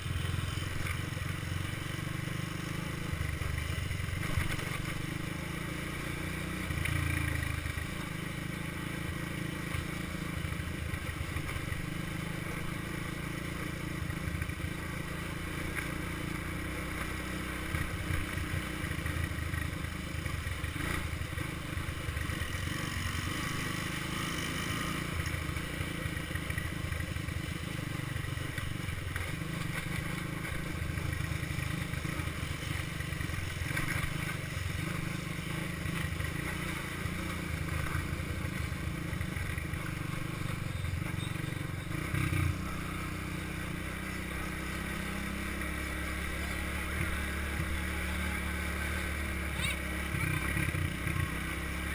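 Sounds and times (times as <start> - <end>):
all-terrain vehicle engine running: 0.0 - 51.9.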